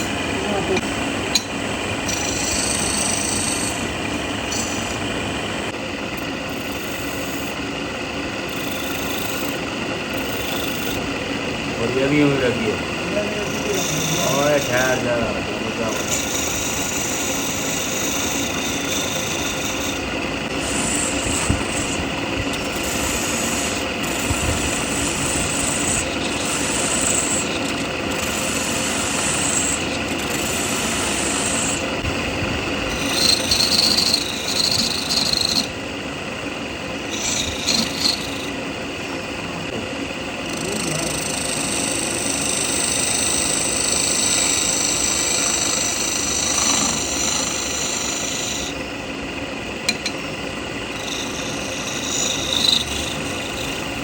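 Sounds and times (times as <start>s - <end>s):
power tool working wood: 0.0s - 7.6s, 8.4s - 35.8s, 36.4s - 54.0s.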